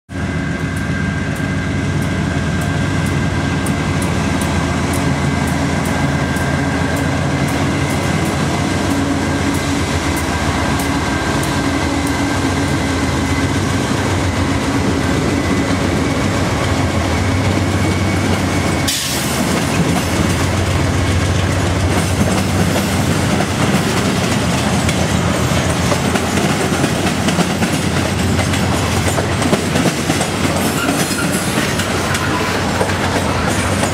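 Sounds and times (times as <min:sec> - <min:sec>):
train cars rumbling on rails: 0:00.1 - 0:33.9
wheels clacking over rail joints: 0:02.6 - 0:33.9.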